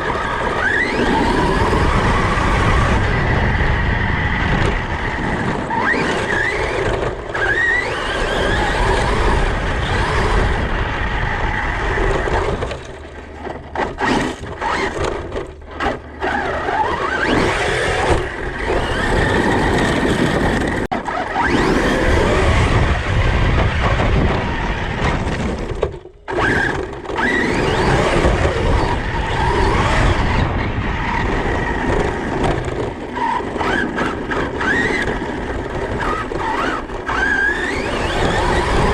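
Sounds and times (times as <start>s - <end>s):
electric motor whine: 0.0s - 38.9s
tyres and drivetrain rumble: 0.0s - 38.9s.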